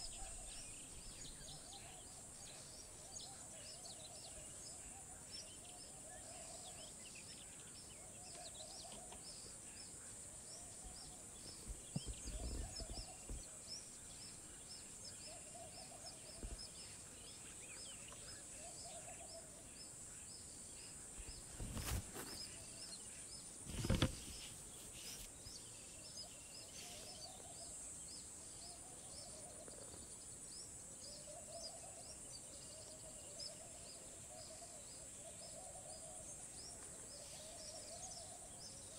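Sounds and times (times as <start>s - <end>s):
bird chirps: 0.0s - 38.9s.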